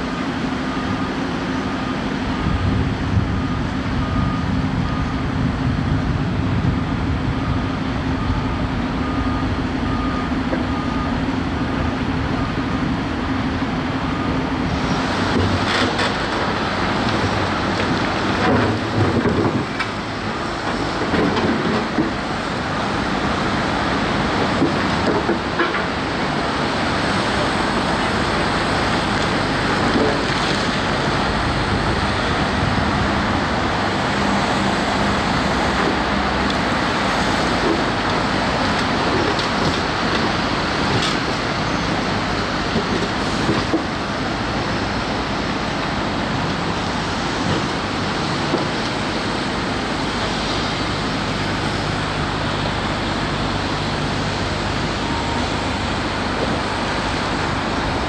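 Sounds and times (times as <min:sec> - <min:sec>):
heavy machinery: 0:00.0 - 0:58.0
road traffic: 0:00.0 - 0:58.0
truck diesel engine running: 0:00.0 - 0:58.0.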